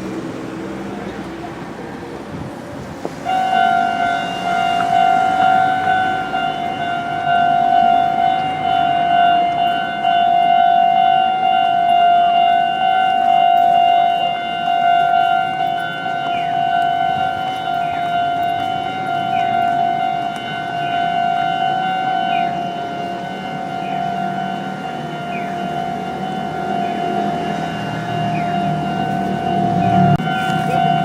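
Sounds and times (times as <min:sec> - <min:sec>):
busy street noise: 0:00.0 - 0:31.0
siren steady tone: 0:03.2 - 0:31.0.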